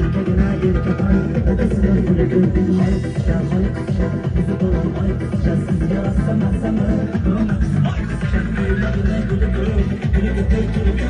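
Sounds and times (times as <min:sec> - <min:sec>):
upbeat music with strong bass: 0:00.0 - 0:11.0.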